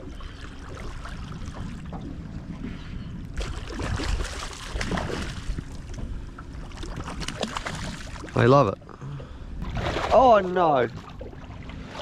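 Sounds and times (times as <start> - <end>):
water lapping: 0.0 - 12.0.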